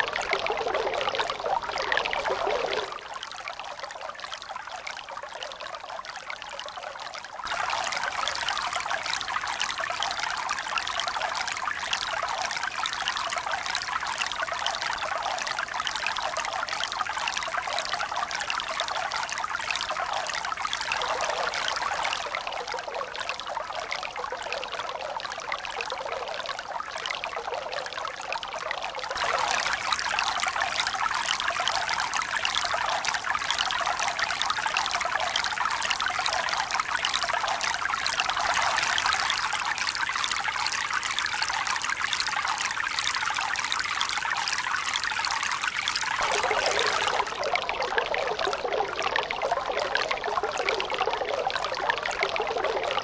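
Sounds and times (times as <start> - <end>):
running water trickling and pouring: 0.0 - 53.0.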